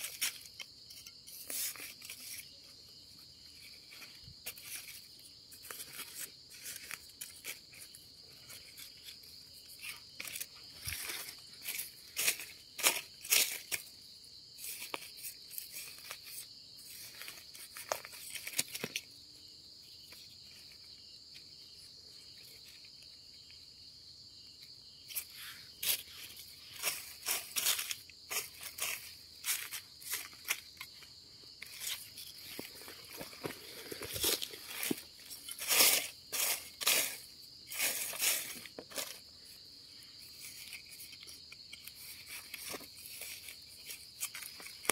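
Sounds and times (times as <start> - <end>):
leaf litter and soil rustling: 0.0 - 19.3, 25.0 - 44.9
high insect trill: 0.0 - 44.9.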